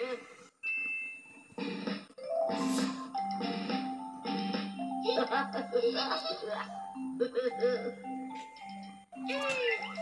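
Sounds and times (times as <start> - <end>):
cartoon music from television speaker: 1.6 - 10.0.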